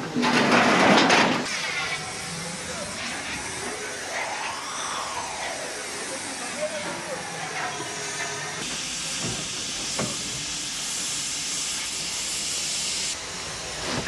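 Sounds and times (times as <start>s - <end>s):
steady hiss: 1.4s - 14.0s.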